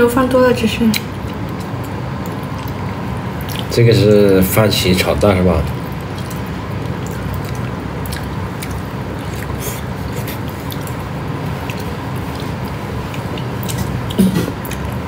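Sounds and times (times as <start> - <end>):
low background hum: 0.0 - 15.0
wet mouth clicks: 0.9 - 3.7, 5.6 - 15.0
person chewing food: 0.9 - 4.4, 5.0 - 15.0.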